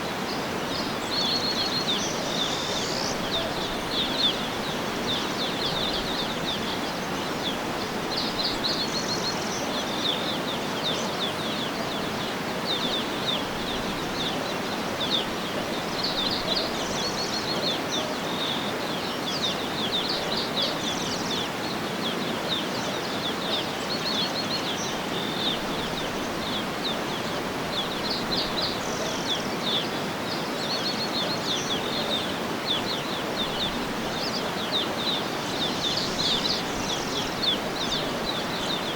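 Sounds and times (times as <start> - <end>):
steady background hiss: 0.0 - 38.9
birds chirping and trilling: 0.2 - 38.9.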